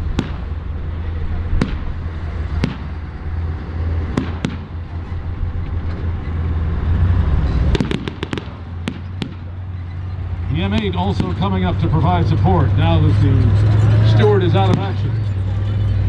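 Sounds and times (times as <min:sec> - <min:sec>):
armored vehicle engine rumble: 0:00.0 - 0:16.0.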